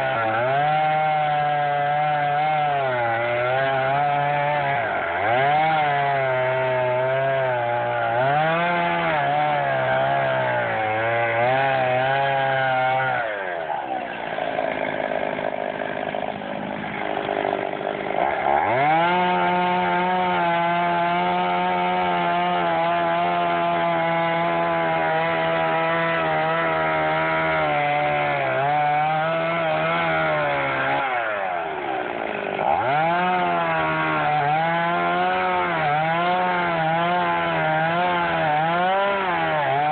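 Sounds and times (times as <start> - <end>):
chainsaw cutting a tree: 0.0 - 39.9.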